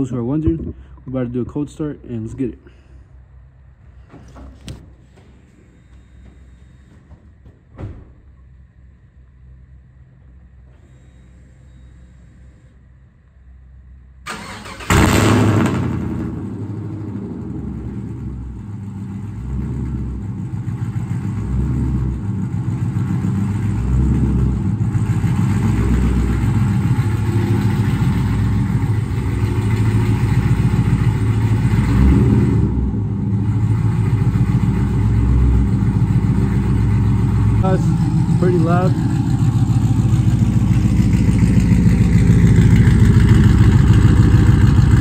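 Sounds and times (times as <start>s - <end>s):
pickup engine cranking and idling: 0.0s - 45.0s.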